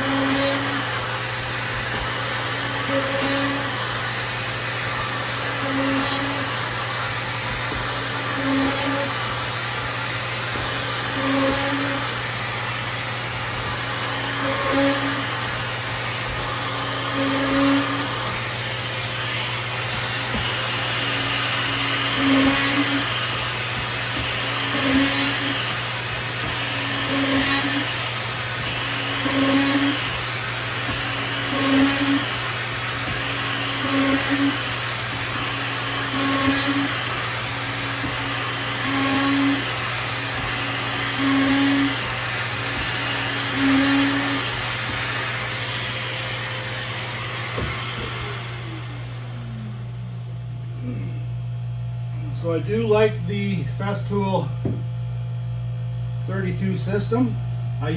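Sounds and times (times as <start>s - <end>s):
plunge router boring: 0.0s - 54.9s
dust extractor running: 0.0s - 57.9s.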